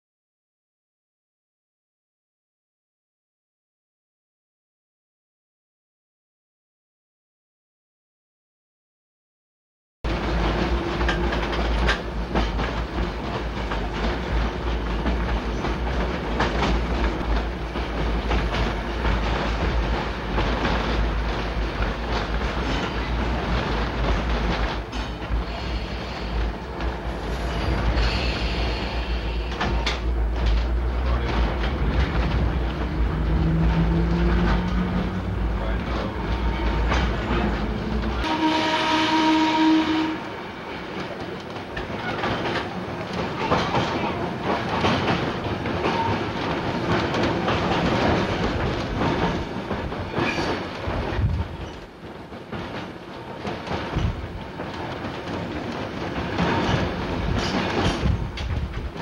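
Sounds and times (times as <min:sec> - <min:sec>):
train wheels rumbling on track: 0:10.1 - 0:59.0.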